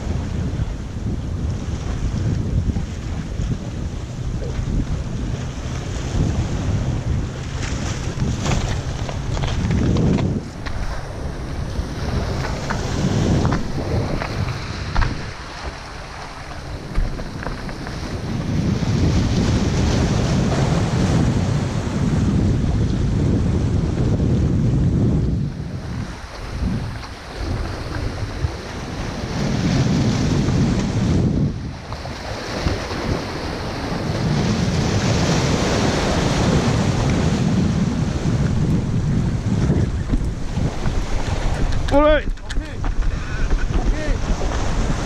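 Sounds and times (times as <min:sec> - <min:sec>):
waves washing on rocks: 0:00.0 - 0:22.4, 0:25.5 - 0:45.0
wind buffeting microphone: 0:00.0 - 0:45.0.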